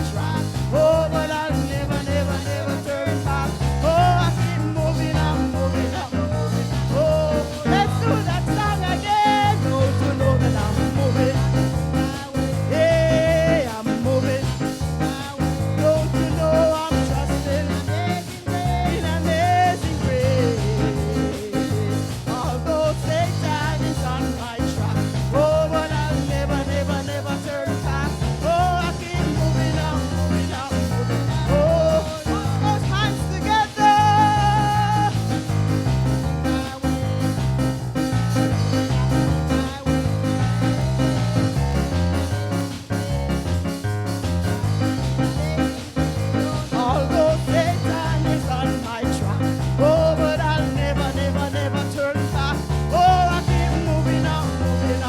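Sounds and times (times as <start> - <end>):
worship music with singing: 0.0 - 43.1, 45.2 - 55.0
repeating bass line: 0.0 - 55.0.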